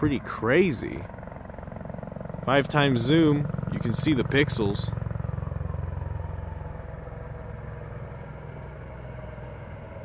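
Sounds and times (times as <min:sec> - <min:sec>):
helicopter rotors beating: 0:00.0 - 0:10.0.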